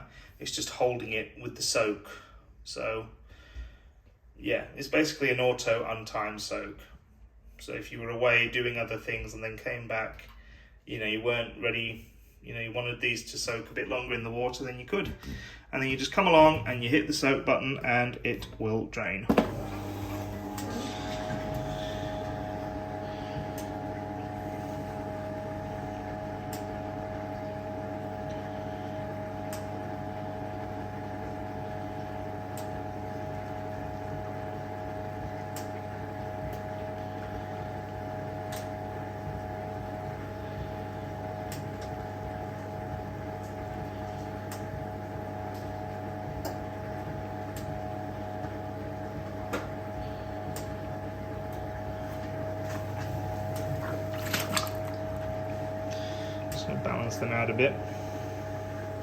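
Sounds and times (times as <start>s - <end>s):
washing machine pump hum: 0.0s - 3.8s, 7.6s - 59.0s.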